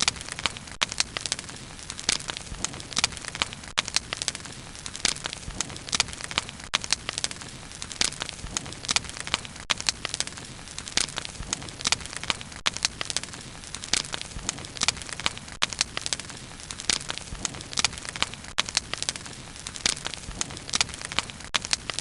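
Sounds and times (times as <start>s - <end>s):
bonfire crackling: 0.0s - 22.0s
low hiss of burning: 0.0s - 22.0s.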